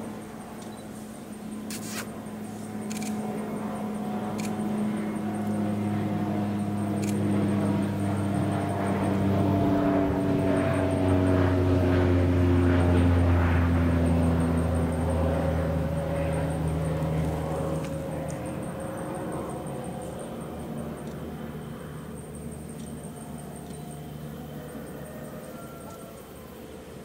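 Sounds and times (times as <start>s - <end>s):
distant engine droning: 0.0s - 27.0s.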